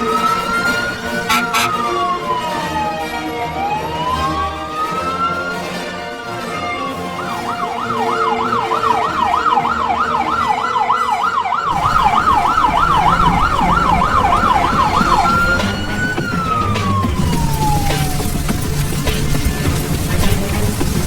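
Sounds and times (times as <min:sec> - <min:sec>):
fire truck siren wailing and yelping: 0:00.0 - 0:21.0.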